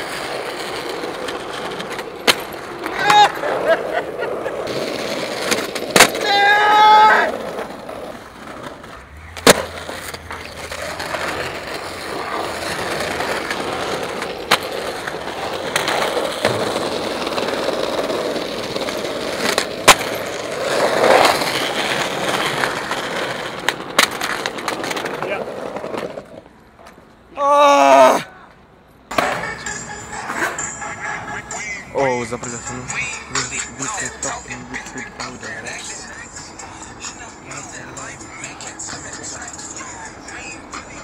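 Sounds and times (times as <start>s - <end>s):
skateboard clacking on ground: 0.0s - 27.2s, 28.5s - 41.0s
skateboard wheels rolling on stone: 0.0s - 28.3s, 29.1s - 41.0s.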